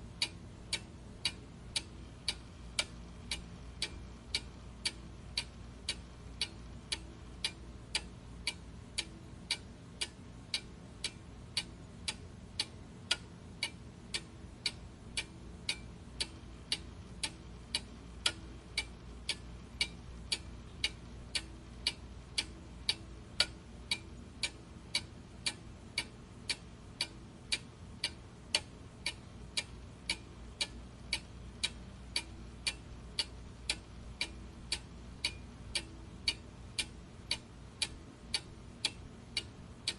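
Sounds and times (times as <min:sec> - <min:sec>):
faint low hum: 0:00.0 - 0:39.9
clock ticking: 0:00.1 - 0:39.9.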